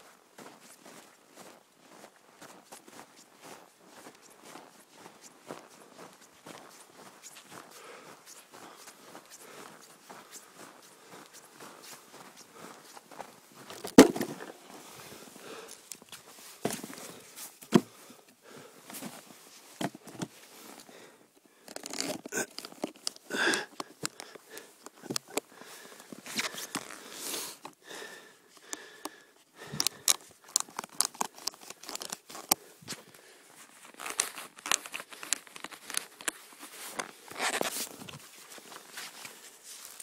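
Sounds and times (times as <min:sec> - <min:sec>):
crunching of snow: 0:00.4 - 0:40.0.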